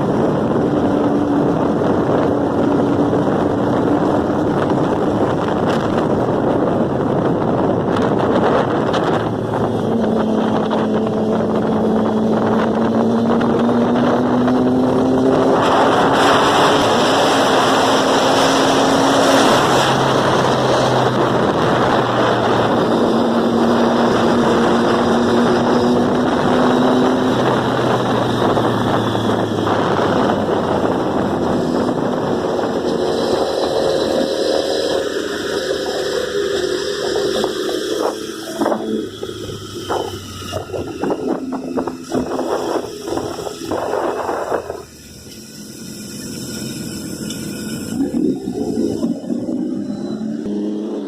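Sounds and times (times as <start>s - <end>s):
motorcycle engine accelerating: 0.0s - 51.0s
wind noise on microphone: 0.0s - 51.0s.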